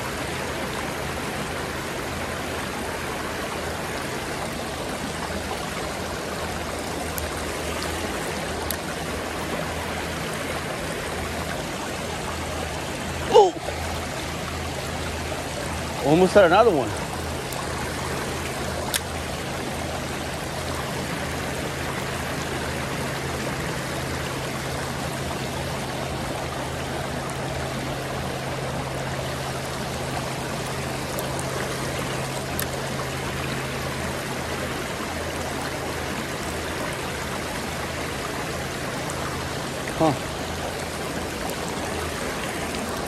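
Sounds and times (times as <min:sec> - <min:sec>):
creek water over rocks: 0:00.0 - 0:43.0.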